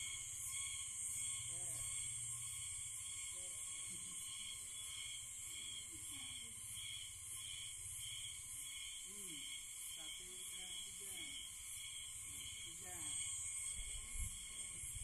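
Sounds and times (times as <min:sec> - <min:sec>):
shrill chorus of forest insects: 0:00.0 - 0:15.0.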